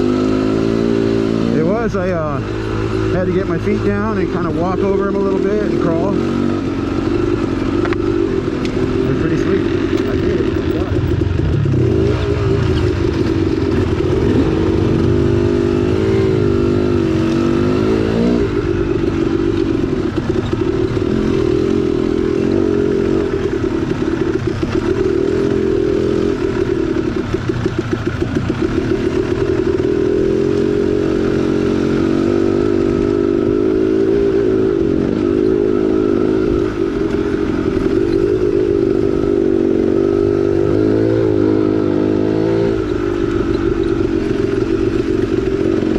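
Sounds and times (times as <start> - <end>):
two-stroke dirt bike engine: 0.0 - 45.9.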